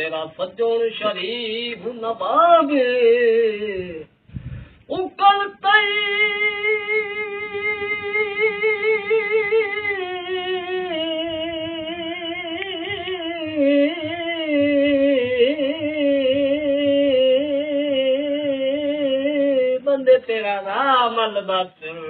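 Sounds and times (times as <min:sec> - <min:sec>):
man singing unaccompanied: 0:00.0 - 0:04.2, 0:04.8 - 0:22.0.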